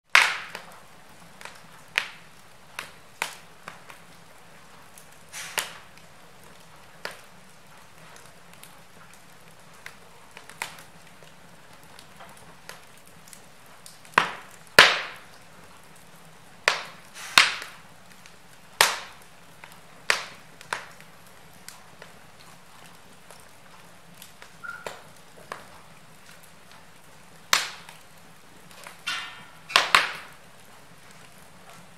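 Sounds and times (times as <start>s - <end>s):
fire crackling and popping: 0.1s - 31.9s.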